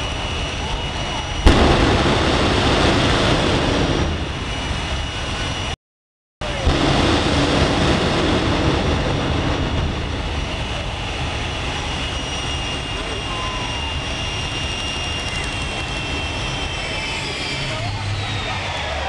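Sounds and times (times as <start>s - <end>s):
jet engine roaring: 0.0s - 5.8s, 6.4s - 19.0s.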